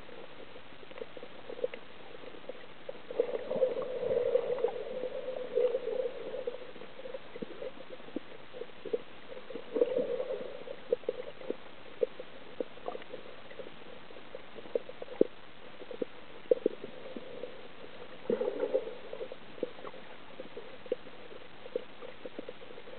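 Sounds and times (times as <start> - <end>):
water gurgling: 0.0 - 22.9.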